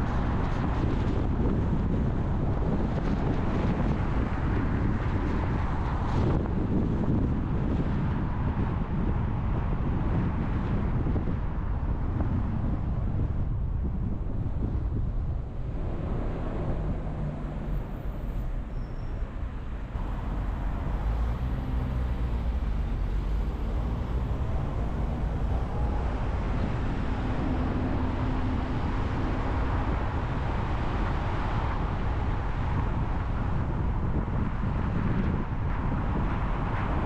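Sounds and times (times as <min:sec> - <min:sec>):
low engine hum: 0:00.0 - 0:37.0
road and tyre noise: 0:00.0 - 0:37.0.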